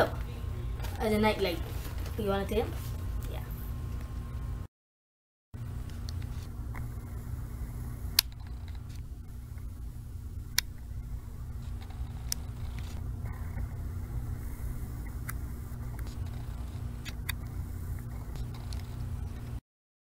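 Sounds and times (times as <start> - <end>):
steady low hum: 0.0 - 4.7, 5.6 - 19.6.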